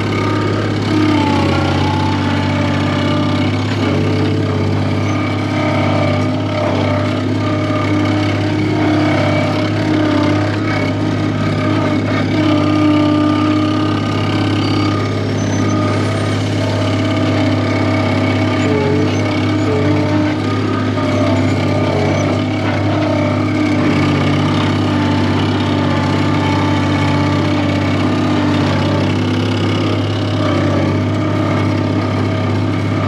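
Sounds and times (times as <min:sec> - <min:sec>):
skid steer engine idling: 0:00.0 - 0:33.0.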